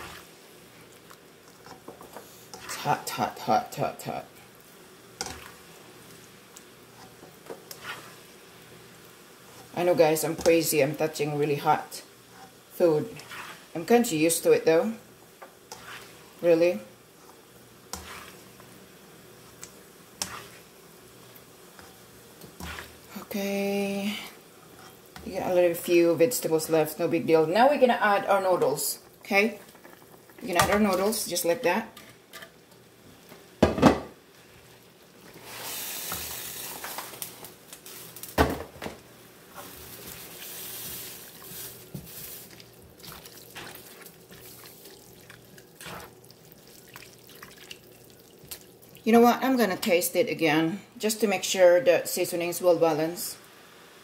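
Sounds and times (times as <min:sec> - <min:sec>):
broth simmering hiss: 0:00.0 - 0:54.0.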